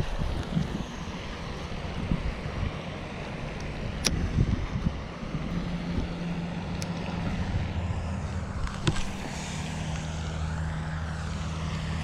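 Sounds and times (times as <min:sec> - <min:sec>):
low engine drone: 0:00.0 - 0:12.0
wind rushing over microphone: 0:00.0 - 0:12.0.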